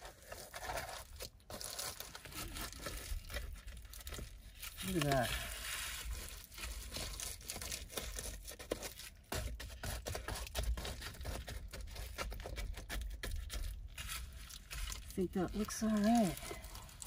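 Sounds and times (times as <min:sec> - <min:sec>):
foil insulation crinkling: 0:00.0 - 0:17.0.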